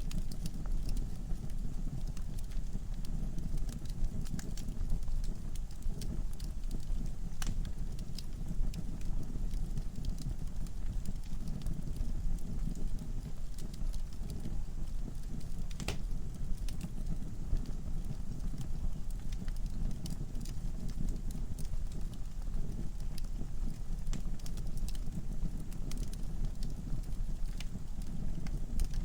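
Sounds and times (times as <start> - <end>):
fireplace fire crackling: 0.0 - 29.0.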